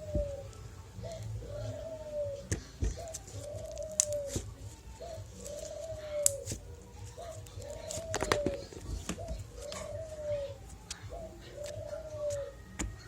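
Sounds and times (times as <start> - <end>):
bird cooing: 0.0 - 13.0.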